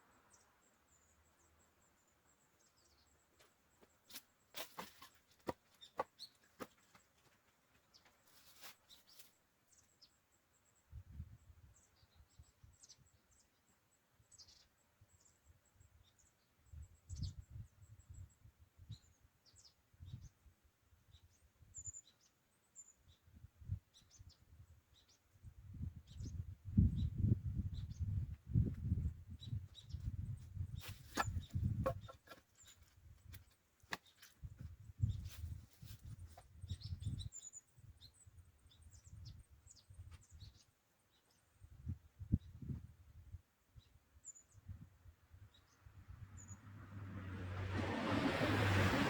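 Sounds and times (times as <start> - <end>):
small birds chirping: 0.0 - 20.4, 21.1 - 42.8.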